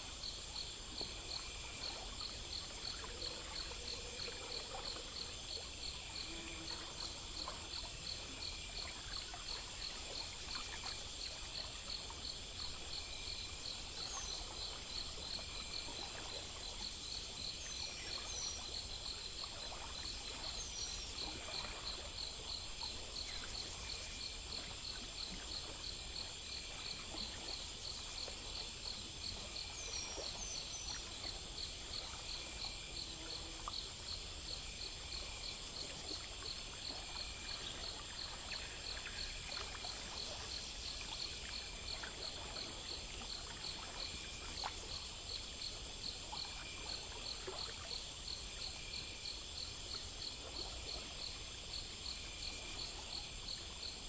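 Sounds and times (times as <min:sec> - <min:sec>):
crickets chirping: 0:00.0 - 0:54.0
faint trickle of water: 0:00.0 - 0:54.0
high insect drone: 0:00.0 - 0:54.0.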